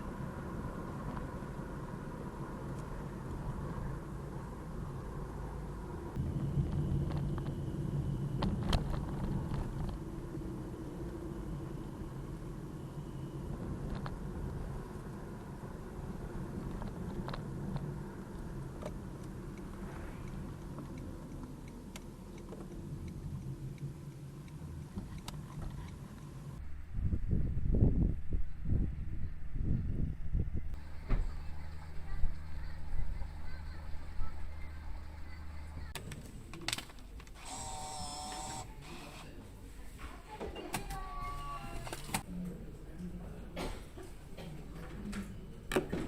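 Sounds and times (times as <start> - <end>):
car engine and road noise: 0.0 - 40.3.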